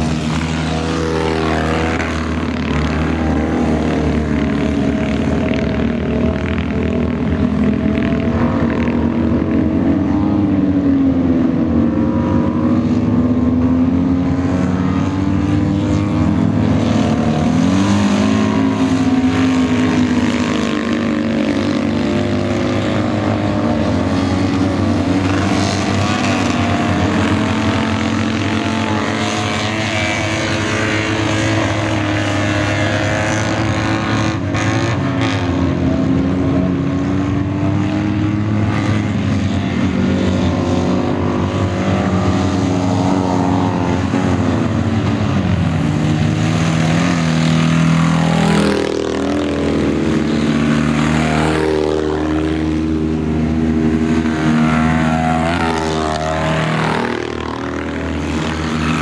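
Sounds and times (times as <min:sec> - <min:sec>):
car engines racing at high revs: 0:00.0 - 0:59.0.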